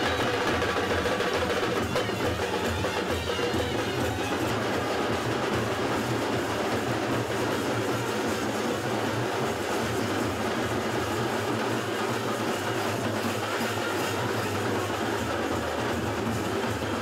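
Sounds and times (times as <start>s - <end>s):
crowd din on railway platform: 0.0s - 17.0s.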